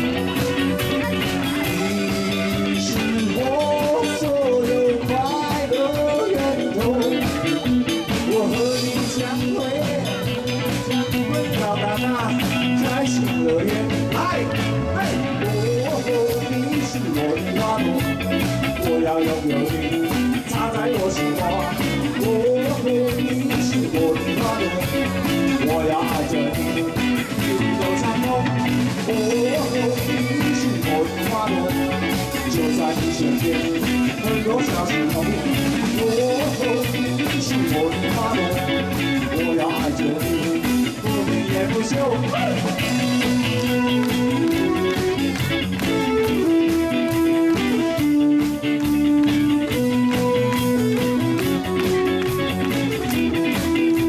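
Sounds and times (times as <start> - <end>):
drum kit: 0.0 - 54.0
electric guitars: 0.0 - 54.0.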